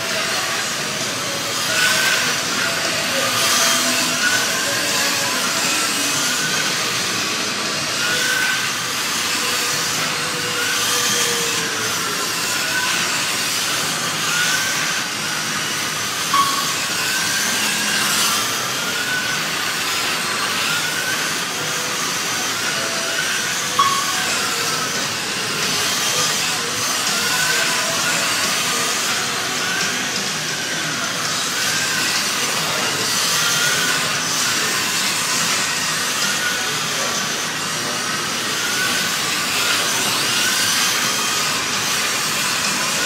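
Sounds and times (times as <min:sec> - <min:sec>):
slot car motors whining: 0:00.0 - 0:43.0.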